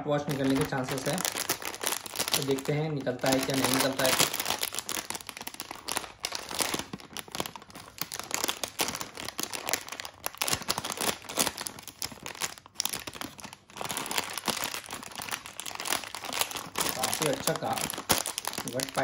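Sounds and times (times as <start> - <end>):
plastic wrapper crackling and tearing: 0.0 - 19.0.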